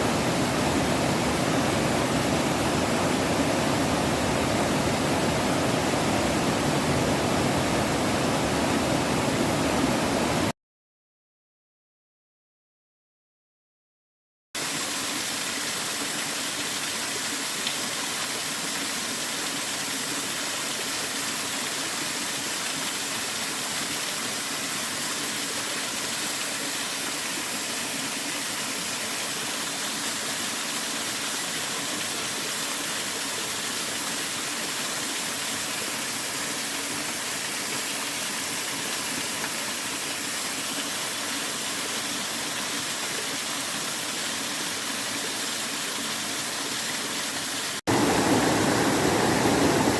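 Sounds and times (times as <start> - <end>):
stream water rushing: 0.0 - 10.5, 14.6 - 49.9.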